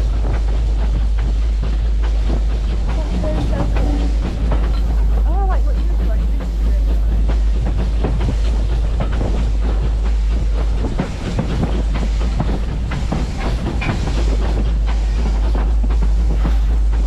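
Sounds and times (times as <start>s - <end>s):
train clattering and clanking: 0.0s - 17.0s
train rumbling along track: 0.0s - 17.0s.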